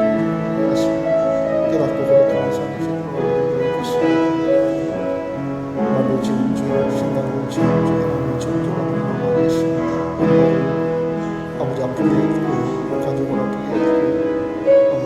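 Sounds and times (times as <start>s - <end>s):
congregational prayer: 0.0s - 15.0s
soft keyboard chords: 0.0s - 15.0s.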